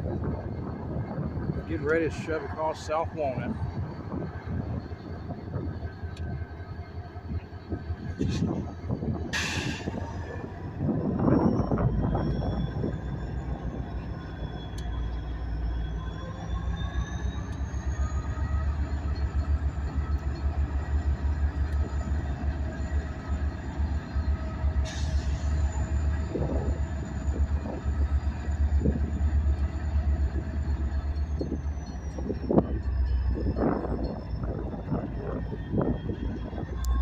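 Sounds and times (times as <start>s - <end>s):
diesel locomotive throbbing: 0.0s - 37.0s
freight cars squealing: 1.1s - 37.0s.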